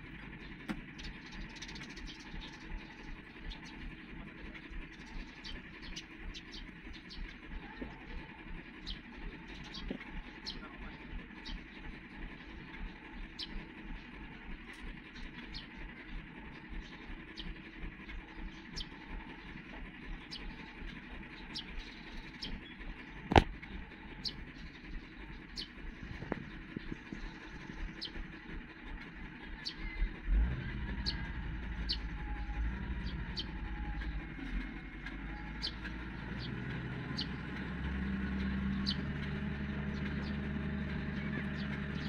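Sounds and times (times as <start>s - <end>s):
construction machinery engine rumble: 0.0s - 42.0s.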